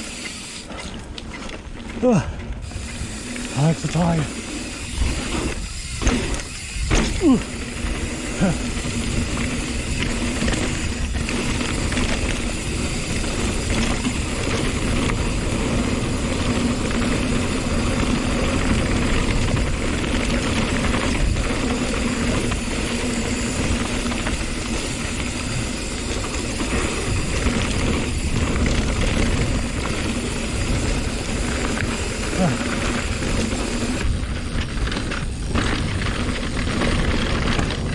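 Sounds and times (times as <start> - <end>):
bike rattling: 0.0 - 37.9
bike tyres rolling over rock: 0.0 - 37.9.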